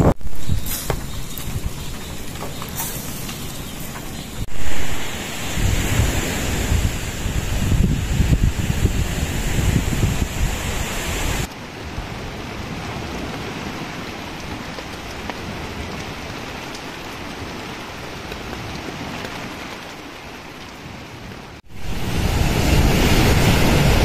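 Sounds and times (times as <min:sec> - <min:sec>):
rain falling on a tent: 0:00.0 - 0:24.0.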